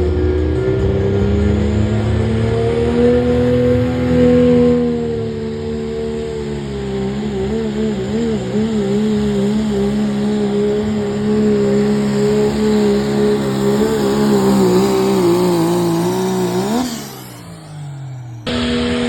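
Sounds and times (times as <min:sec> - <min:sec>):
engine at high revs under load: 0:00.0 - 0:19.0.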